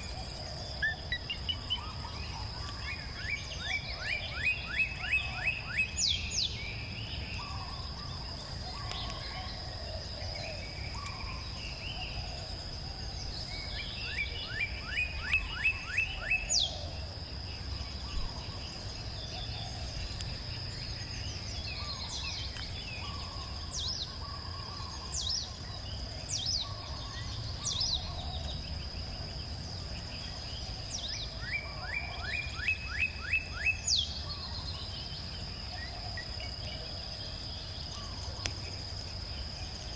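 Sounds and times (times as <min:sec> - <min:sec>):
birds chirping: 0:00.0 - 0:39.9
songbird singing: 0:00.0 - 0:39.9.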